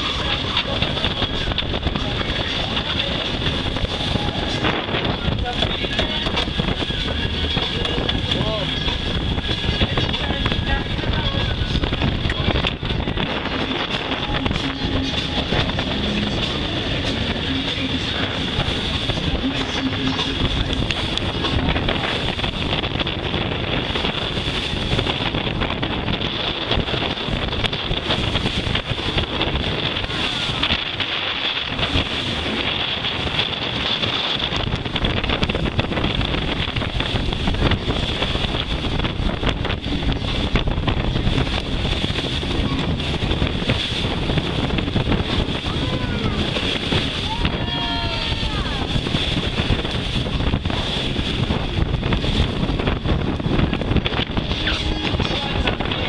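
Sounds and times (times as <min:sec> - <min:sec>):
water rushing along hull: 0:00.0 - 0:56.0
wind buffeting microphone: 0:00.0 - 0:56.0.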